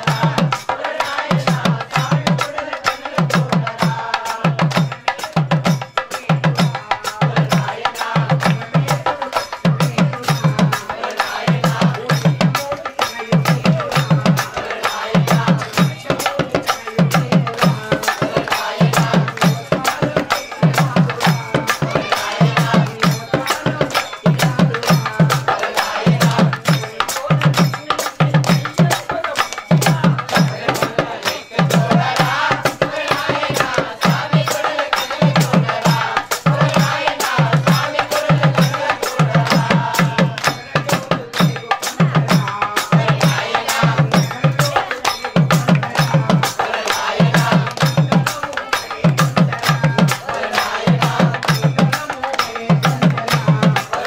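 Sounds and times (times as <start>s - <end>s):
hand cymbals clashing: 0.0s - 54.0s
hand drum beat: 0.0s - 54.0s
voices singing: 0.0s - 54.0s.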